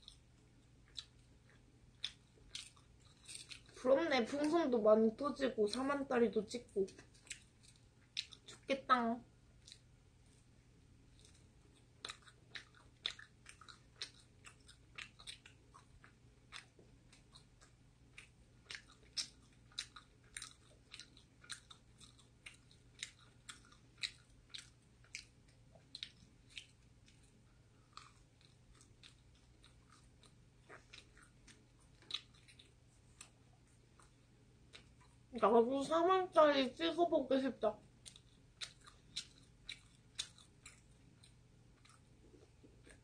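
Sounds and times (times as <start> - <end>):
chewing pizza crust: 0.0 - 35.9, 37.7 - 43.0.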